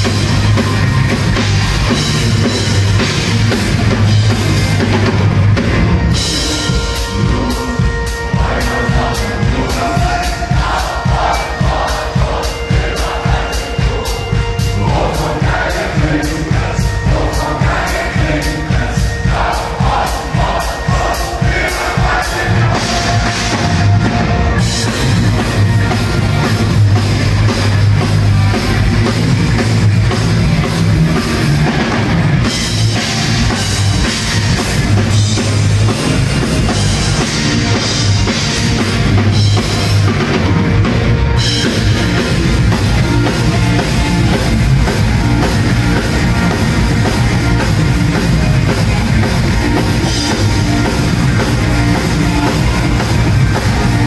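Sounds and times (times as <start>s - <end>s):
drum kit beating: 0.0s - 54.0s
live rock band music: 0.0s - 54.0s.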